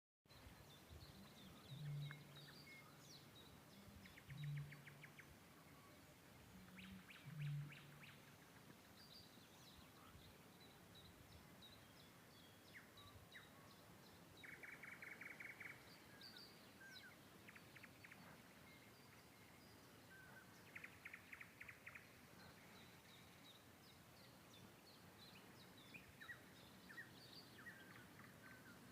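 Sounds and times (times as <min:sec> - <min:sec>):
birds singing and chirping: 0:00.3 - 0:06.0, 0:06.6 - 0:28.9.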